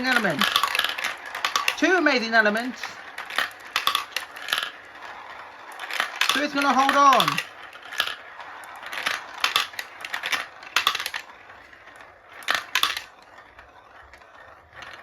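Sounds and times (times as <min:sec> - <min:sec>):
marbles clicking and clacking: 0:00.0 - 0:15.0
marbles rolling on track: 0:00.0 - 0:15.0.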